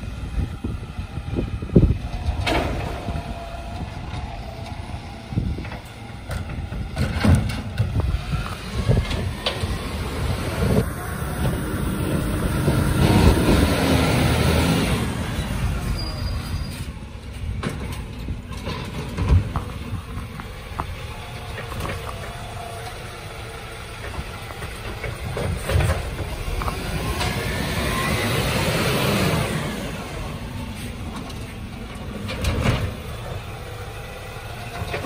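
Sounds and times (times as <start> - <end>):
garbage truck engine and hydraulics: 0.0 - 35.0.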